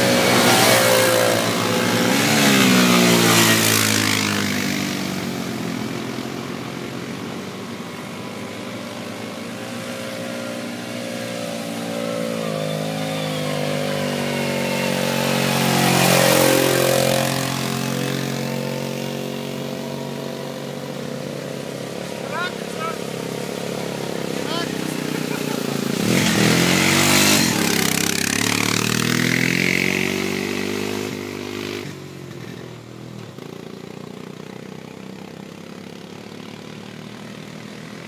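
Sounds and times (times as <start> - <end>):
quad bike engines passing: 0.0 - 38.0.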